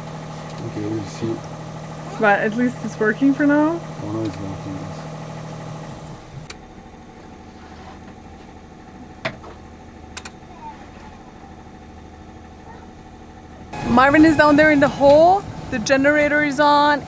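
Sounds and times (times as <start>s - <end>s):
generator humming: 0.0s - 17.0s.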